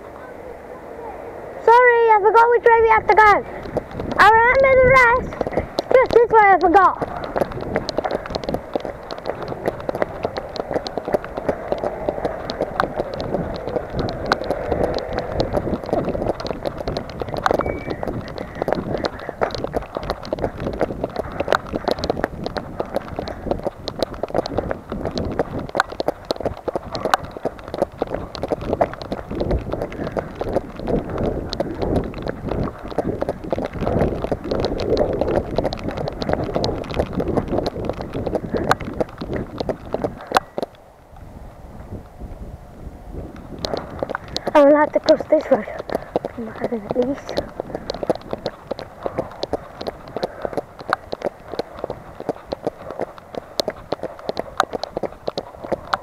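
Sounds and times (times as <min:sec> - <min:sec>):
wind buffeting microphone: 0:00.0 - 0:56.0
running footsteps on wet paving: 0:01.6 - 0:42.5, 0:43.1 - 0:56.0
raindrops ticking on camera: 0:02.6 - 0:40.8, 0:43.2 - 0:56.0.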